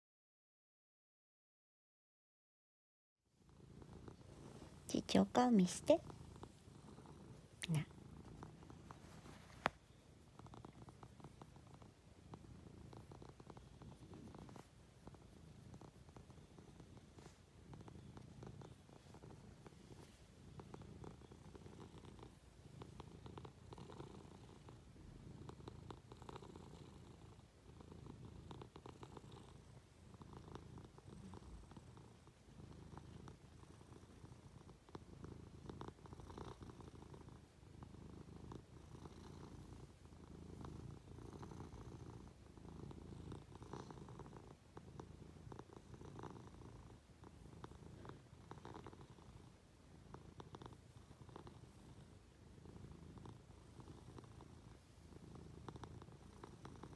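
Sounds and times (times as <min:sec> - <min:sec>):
cat purring: 0:03.3 - 0:56.9.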